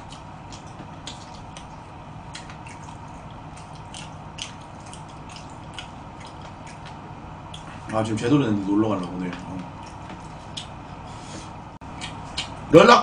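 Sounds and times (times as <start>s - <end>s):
man chewing and lip-smacking: 0.0s - 8.0s, 9.0s - 12.7s
low steady hum: 0.0s - 13.0s.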